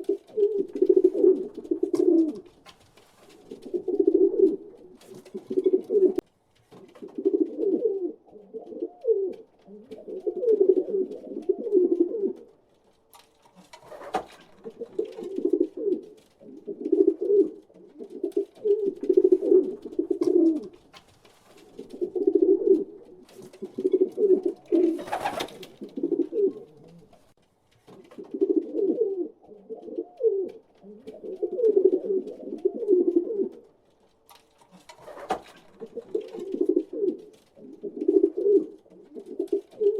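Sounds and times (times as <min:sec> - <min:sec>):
pigeons cooing: 0:00.0 - 0:02.6, 0:03.3 - 0:06.2, 0:06.9 - 0:12.6, 0:13.6 - 0:20.9, 0:21.6 - 0:27.3, 0:28.0 - 0:33.7, 0:34.7 - 0:39.9.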